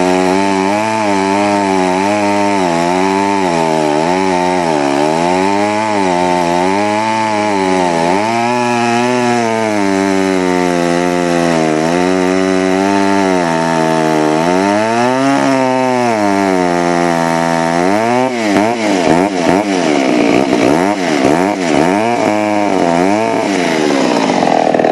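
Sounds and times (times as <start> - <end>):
chainsaw cutting log: 0.0 - 24.9.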